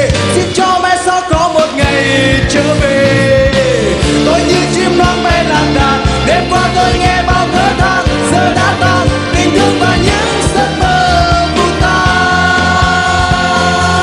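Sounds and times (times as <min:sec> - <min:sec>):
drum beat: 0:00.0 - 0:14.0
live pop-rock band: 0:00.0 - 0:14.0
man singing: 0:00.0 - 0:14.0.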